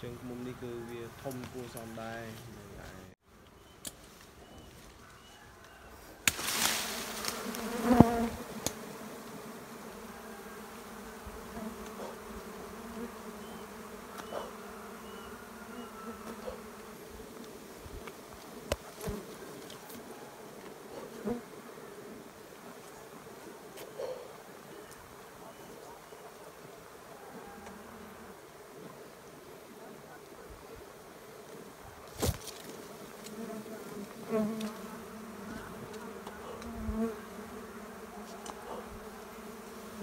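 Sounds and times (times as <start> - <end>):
bees buzzing: 6.2 - 40.0.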